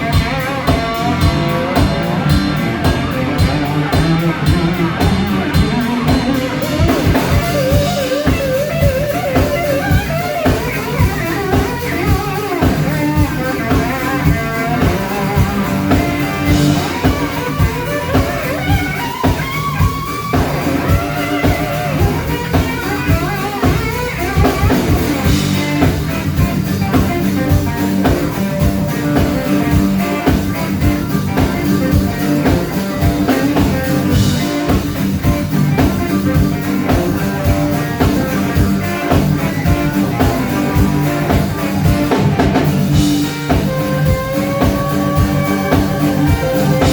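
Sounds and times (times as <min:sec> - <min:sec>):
drum kit beat: 0:00.0 - 0:46.9
electric guitar: 0:00.0 - 0:46.9.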